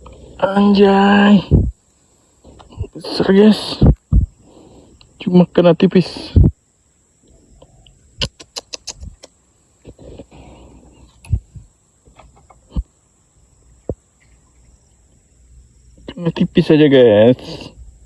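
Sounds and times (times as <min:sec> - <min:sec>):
faint low background noise: 0:00.0 - 0:18.0.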